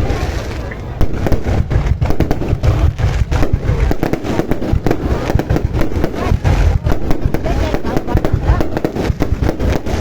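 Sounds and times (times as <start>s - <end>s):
continuous low rumble: 0.0s - 10.0s
fireworks bangs and pops: 0.0s - 10.0s.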